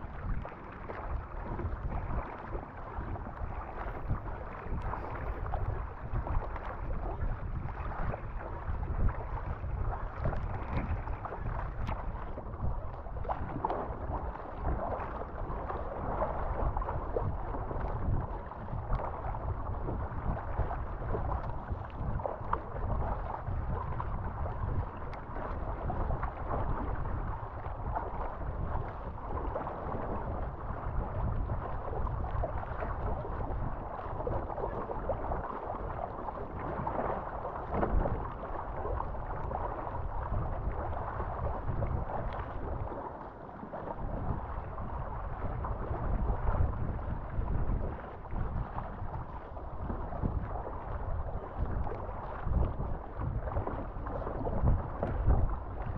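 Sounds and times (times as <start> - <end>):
wind buffeting microphone: 0.0 - 43.2, 43.9 - 55.9
paddle splashes: 0.0 - 55.9
water rushing along boat hull: 0.0 - 55.9.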